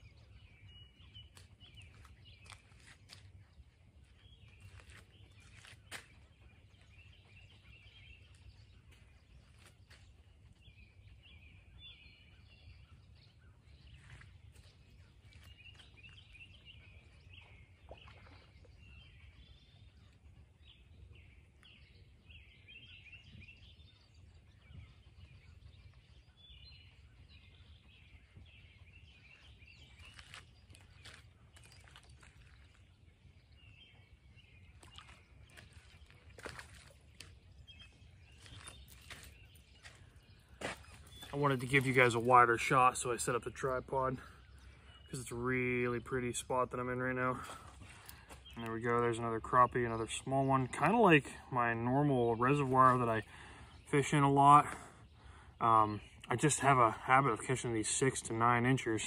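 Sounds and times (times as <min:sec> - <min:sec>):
songbird chirping: 0:00.0 - 0:59.0.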